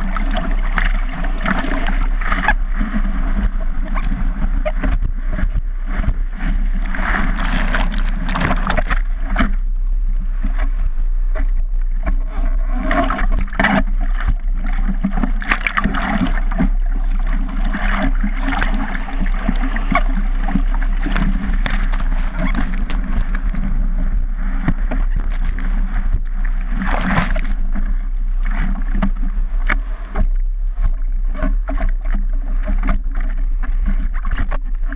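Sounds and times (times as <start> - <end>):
low rumble: 0.0 - 34.9
water rushing and splashing: 0.0 - 34.9.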